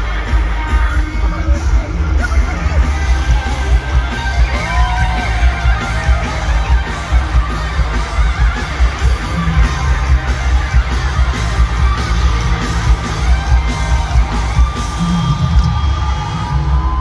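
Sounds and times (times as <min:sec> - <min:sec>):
pop music over sound system: 0:00.0 - 0:17.0.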